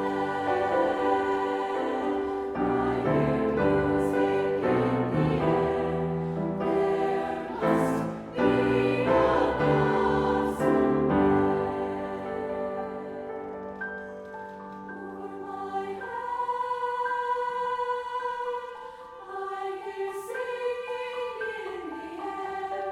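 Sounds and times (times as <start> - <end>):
choir singing chords: 0.0 - 22.9.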